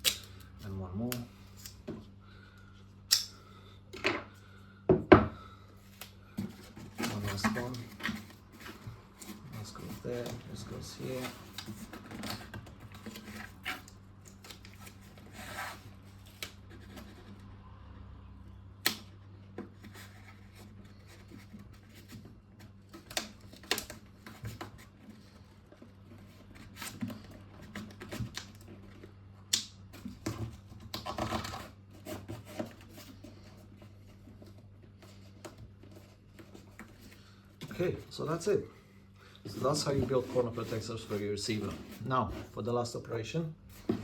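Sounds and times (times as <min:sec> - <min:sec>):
steady low hum: 0:00.0 - 0:44.0
cardboard and tape rustling: 0:05.9 - 0:17.5, 0:19.6 - 0:44.0.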